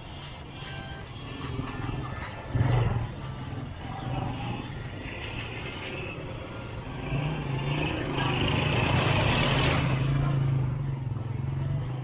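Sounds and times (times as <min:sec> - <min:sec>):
vehicle engine passing: 0:01.2 - 0:12.0.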